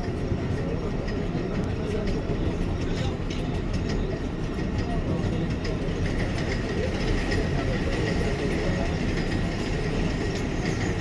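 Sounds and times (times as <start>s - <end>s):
subway train rumble: 0.0s - 11.0s
wheels clicking on rails: 0.0s - 11.0s.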